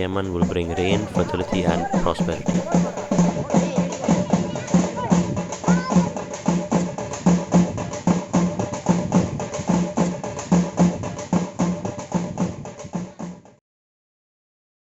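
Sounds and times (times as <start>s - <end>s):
drum music with steady beat: 0.0s - 13.6s.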